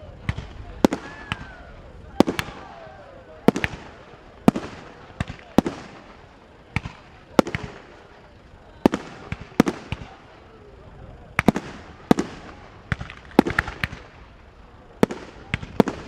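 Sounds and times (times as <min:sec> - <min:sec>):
fireworks bursting with bangs: 0:00.0 - 0:16.0.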